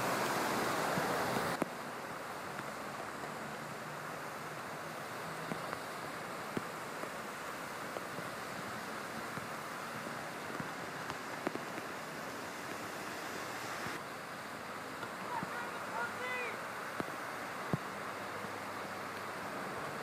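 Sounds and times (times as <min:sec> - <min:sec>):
car tyres splashing through water: 0:00.0 - 0:20.0
heavy rain: 0:00.0 - 0:20.0.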